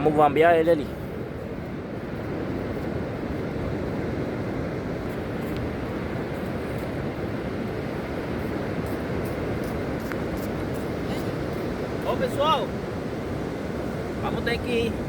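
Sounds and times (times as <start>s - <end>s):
surf washing on beach: 0.0s - 15.0s
wind rumbling on microphone: 0.0s - 15.0s.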